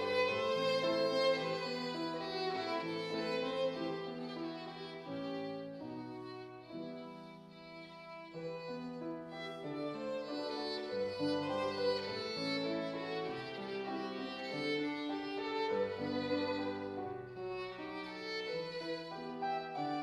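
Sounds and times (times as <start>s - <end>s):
grand piano: 0.0s - 20.0s
violin sustained bowed notes: 0.0s - 20.0s.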